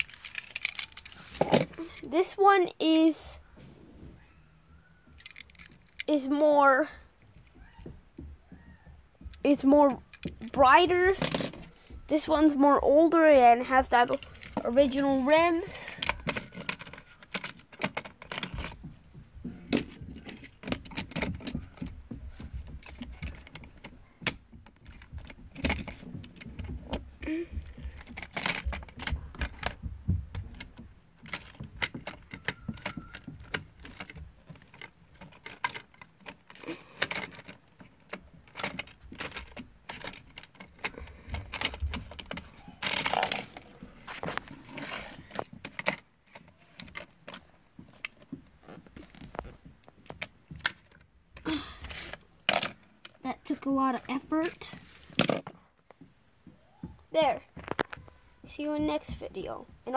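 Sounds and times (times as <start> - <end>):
plastic toy parts clicking and rattling: 0.0 - 3.3, 5.0 - 7.6, 9.2 - 55.6, 57.2 - 58.2.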